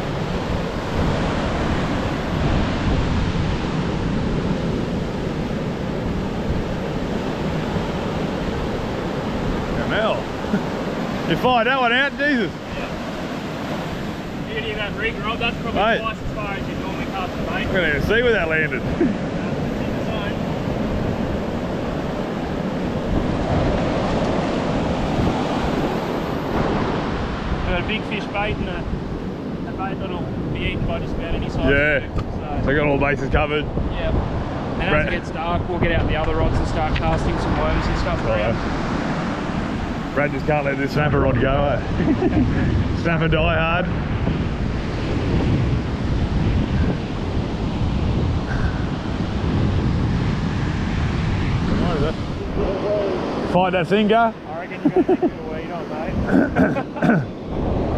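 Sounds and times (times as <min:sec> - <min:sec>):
ocean surf breaking on beach: 0:00.0 - 0:57.9
wind buffeting microphone: 0:00.0 - 0:57.9.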